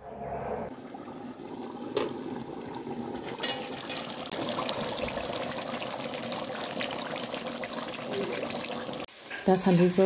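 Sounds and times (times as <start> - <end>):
stew bubbling in a pot: 0.7 - 10.0.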